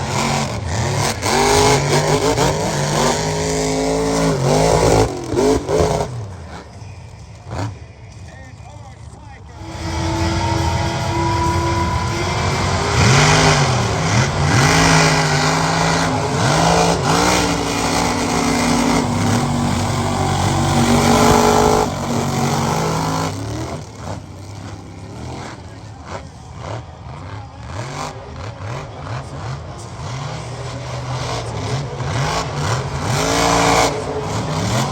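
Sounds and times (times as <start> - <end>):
truck engines revving: 0.0 - 8.3, 9.4 - 34.9.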